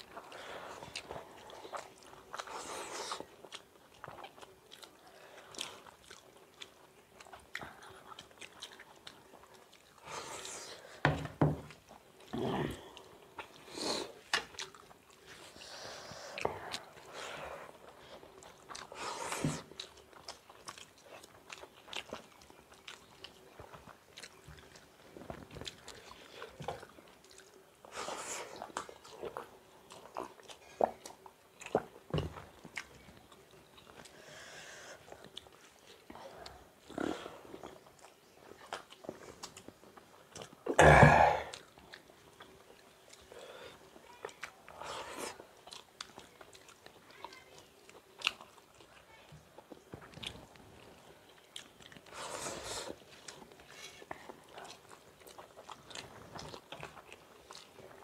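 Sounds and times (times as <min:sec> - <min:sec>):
people chewing food: 0:00.0 - 0:58.0.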